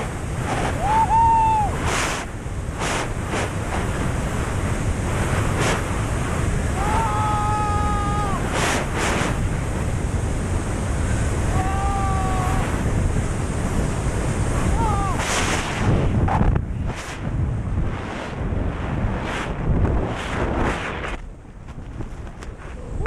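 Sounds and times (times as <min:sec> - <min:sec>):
freefall wind roaring: 0:00.0 - 0:23.0.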